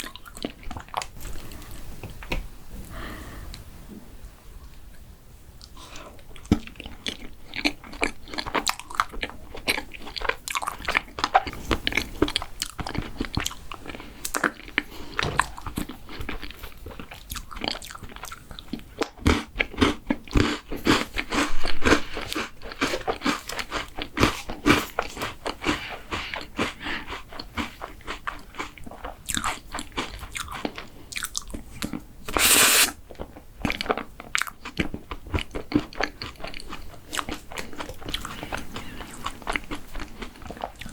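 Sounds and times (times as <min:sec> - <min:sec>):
chewing crunchy food: 0:00.0 - 0:02.4, 0:05.6 - 0:40.9.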